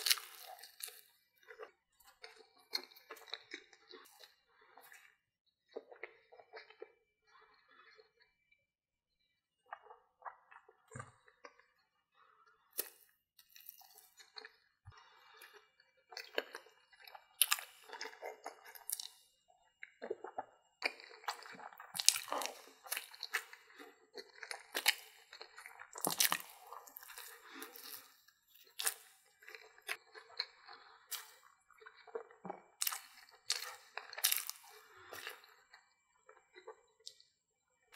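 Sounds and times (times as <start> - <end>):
person chewing crunchy food: 0.0 - 8.3, 9.6 - 37.9.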